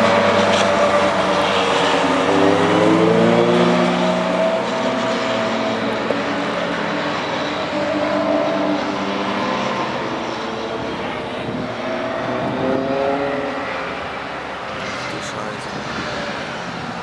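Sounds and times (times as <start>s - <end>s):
race cars passing: 0.0s - 17.0s.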